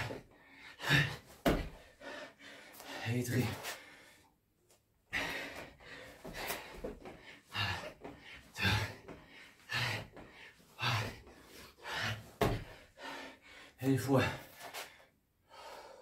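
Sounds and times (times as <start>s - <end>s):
man breathing hard: 0.0s - 4.4s, 5.1s - 16.0s.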